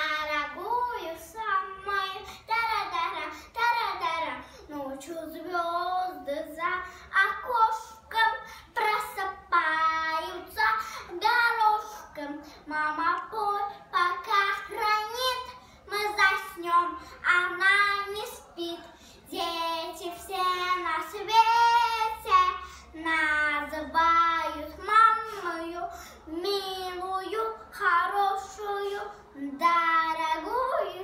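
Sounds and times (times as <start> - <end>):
girl singing unaccompanied: 0.0 - 31.0.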